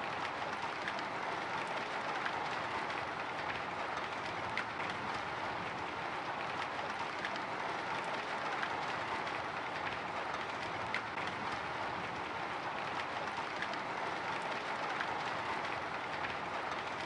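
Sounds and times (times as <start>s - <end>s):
faint raindrop ticks: 0.0s - 17.0s
rain hissing on a window: 0.0s - 17.0s.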